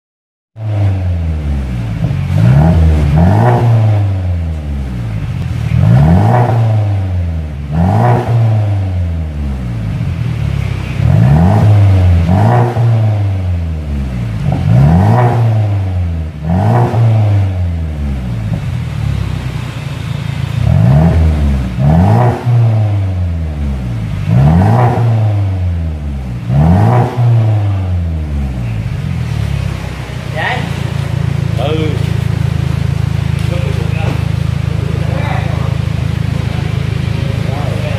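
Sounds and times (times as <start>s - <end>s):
car engine revving from idle: 0.6s - 37.9s.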